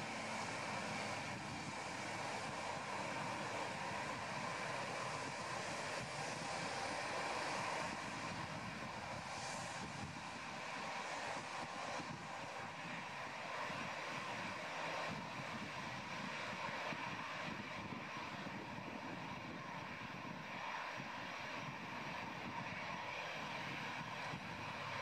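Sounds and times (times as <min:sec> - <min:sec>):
jet engines running steadily: 0:00.0 - 0:25.0.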